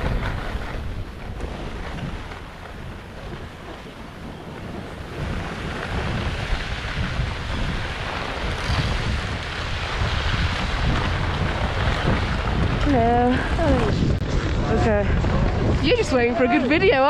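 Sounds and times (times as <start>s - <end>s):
skis sliding on snow: 0.0s - 17.0s
wind buffeting microphone: 0.0s - 17.0s.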